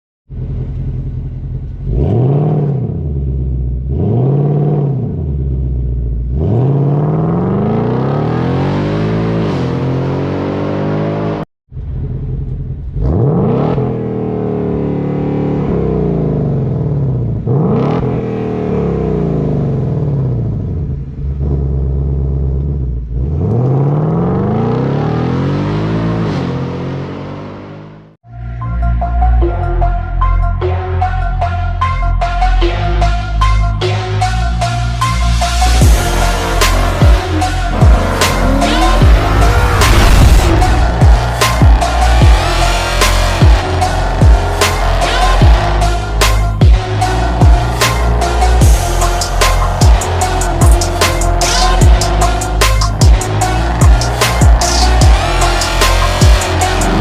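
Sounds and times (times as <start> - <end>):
car engine revving: 0.4 - 28.2, 33.9 - 57.0.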